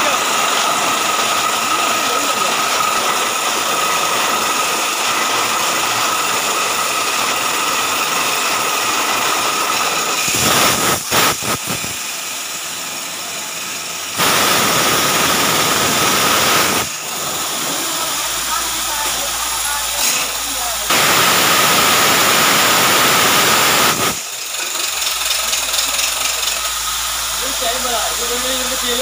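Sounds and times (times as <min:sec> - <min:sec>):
drilling rig whining: 0:00.0 - 0:29.0.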